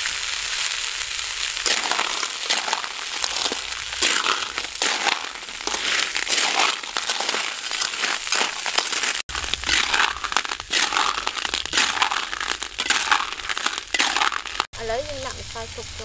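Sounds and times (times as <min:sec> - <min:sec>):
snail shells rattling in wok: 0:01.5 - 0:14.8
metal spatula stirring: 0:01.6 - 0:14.7.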